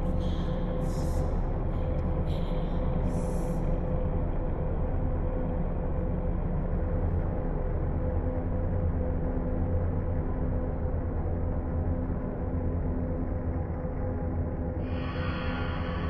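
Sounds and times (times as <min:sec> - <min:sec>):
low rumbling drone: 0:00.0 - 0:16.0.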